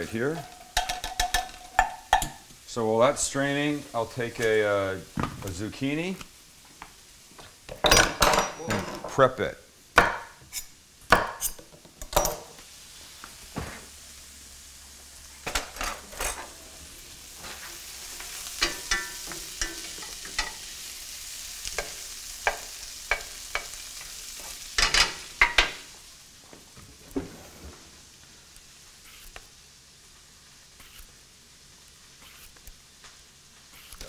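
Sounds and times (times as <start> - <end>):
vegetables sizzling in a frying pan: 0.0 - 11.4, 12.5 - 34.0.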